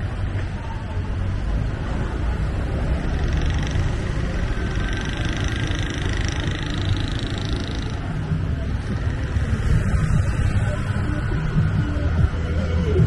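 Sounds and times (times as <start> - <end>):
street traffic engine rumble: 0.0 - 13.0.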